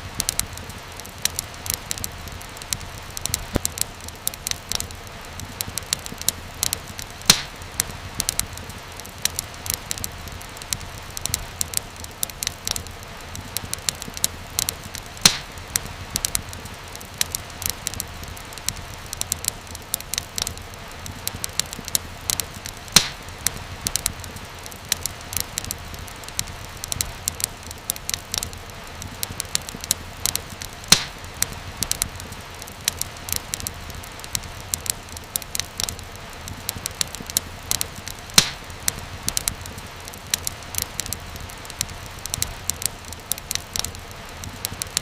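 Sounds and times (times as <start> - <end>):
low rumble and hiss of fire: 0.0 - 45.0
sharp pops and snaps of fire: 0.0 - 45.0.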